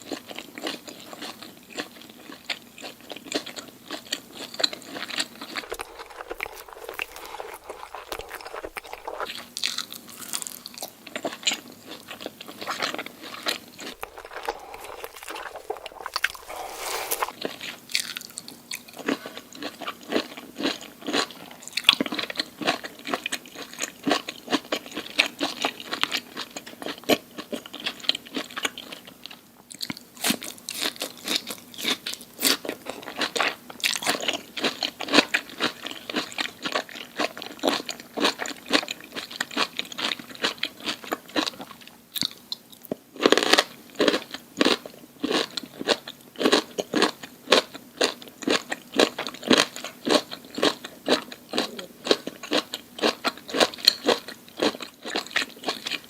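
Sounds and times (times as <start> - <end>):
crunchy chewing of food: 0.0 - 56.0.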